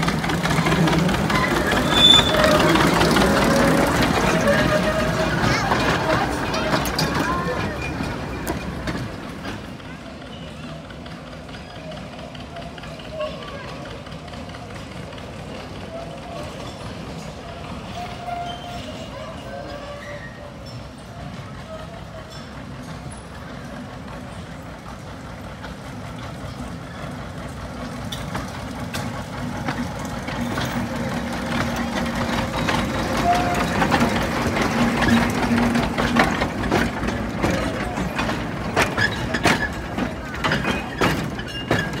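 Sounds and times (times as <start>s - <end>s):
diesel locomotive engine hum: 0.0s - 42.0s
wheels clanking over rail joints: 0.0s - 42.0s.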